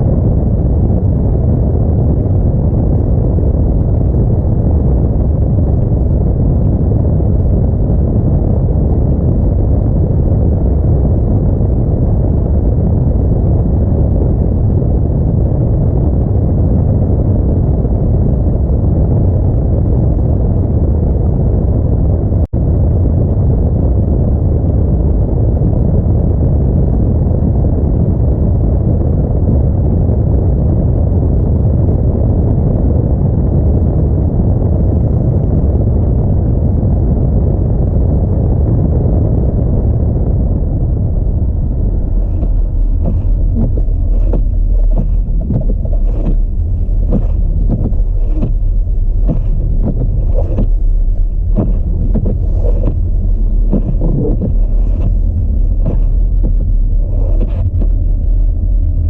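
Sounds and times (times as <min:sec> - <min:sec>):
car road and wind rumble: 0:00.0 - 0:59.0.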